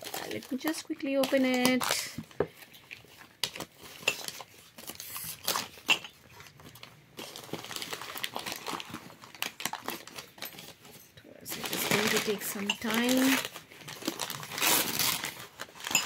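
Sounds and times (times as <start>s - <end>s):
newspaper crinkling and rustling: 0.0s - 16.0s.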